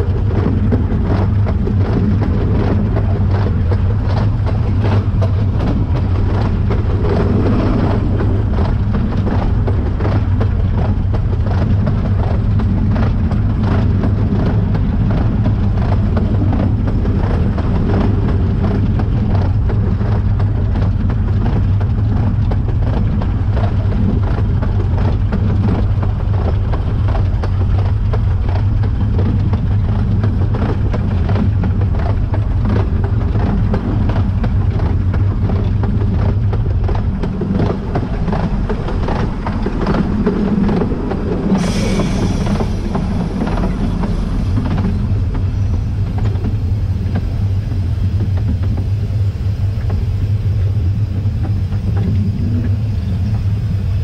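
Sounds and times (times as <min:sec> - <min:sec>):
knocks and clatters: 0:00.0 - 0:53.6
steam locomotive rumbling: 0:00.0 - 0:54.0.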